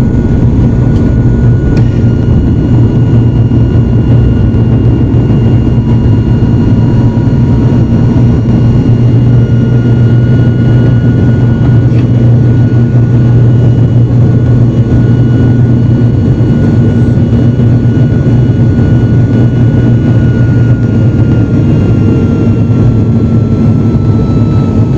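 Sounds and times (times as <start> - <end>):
high engine whine: 0.0 - 24.9
turboprop engines droning: 0.0 - 24.9.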